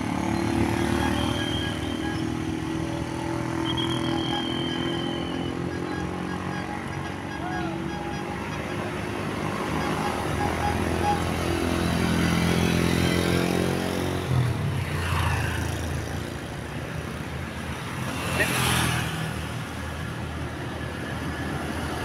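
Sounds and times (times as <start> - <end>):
traffic noise: 0.0 - 22.0.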